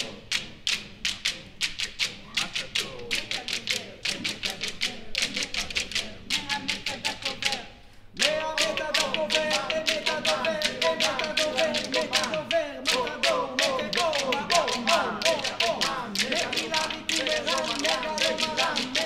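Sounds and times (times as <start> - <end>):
fast sharp clicks: 0.0 - 7.6, 8.2 - 19.0
choir singing: 2.4 - 19.0.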